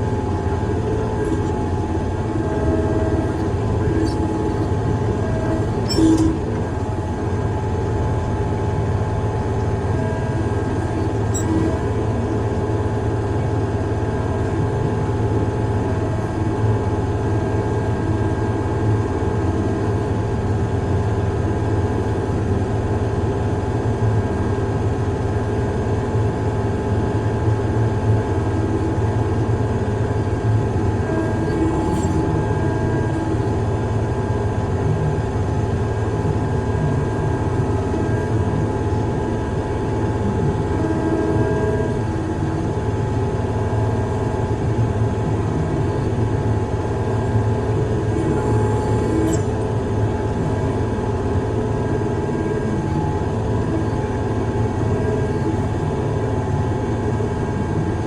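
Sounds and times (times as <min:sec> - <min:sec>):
heavy machine engine droning: 0:00.0 - 0:58.0.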